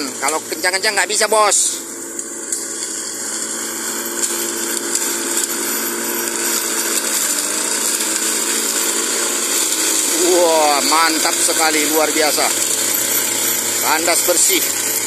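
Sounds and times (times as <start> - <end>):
petrol engine running: 0.0 - 15.0
rotary blades scraping ground: 2.2 - 15.0.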